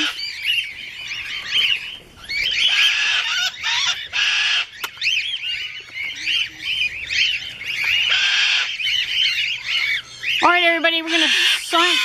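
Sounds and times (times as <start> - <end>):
parrots screaming and squawking: 0.0 - 12.0.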